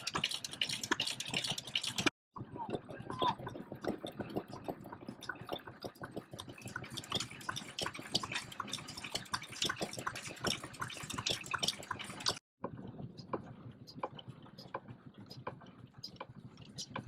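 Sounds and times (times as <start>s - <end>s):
stationary engines clicking and ticking: 0.0s - 17.0s.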